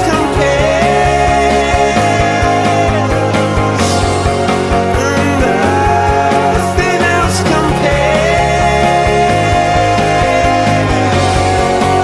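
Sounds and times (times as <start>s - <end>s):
rock music with drum beat: 0.0s - 12.0s.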